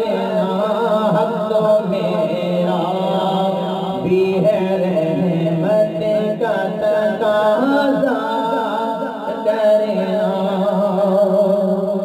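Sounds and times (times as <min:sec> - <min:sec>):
low vocal drone: 0:00.0 - 0:12.0
solo voice chanting: 0:00.0 - 0:12.0.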